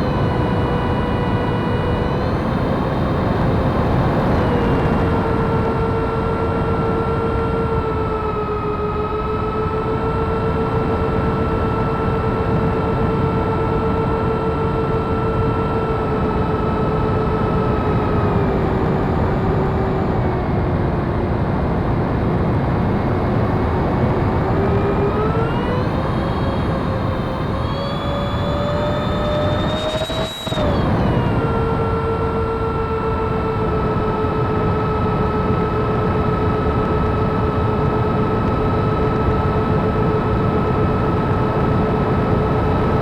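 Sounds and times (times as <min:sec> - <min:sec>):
electric ducted fans whining: 0:00.0 - 0:43.0.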